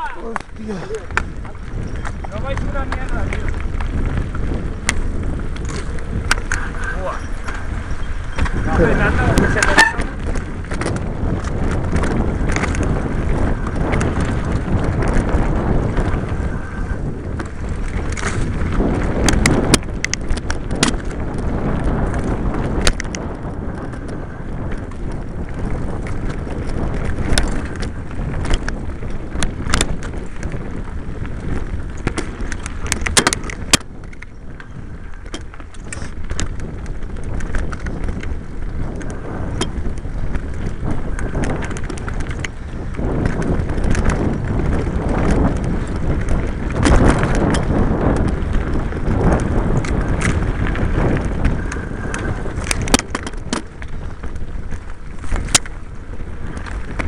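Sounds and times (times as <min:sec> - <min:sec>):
bike rattling over stones: 0:00.0 - 0:57.0
tyre noise: 0:00.0 - 0:57.0
wind on microphone: 0:00.0 - 0:57.0.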